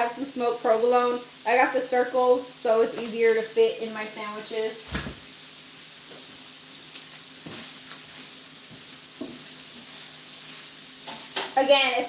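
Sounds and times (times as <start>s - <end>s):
meat and peppers sizzling on griddle: 0.0s - 12.0s.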